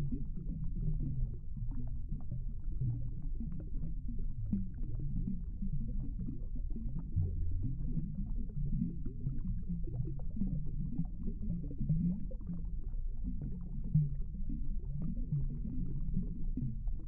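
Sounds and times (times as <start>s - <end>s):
low underwater rumble: 0.0s - 17.0s.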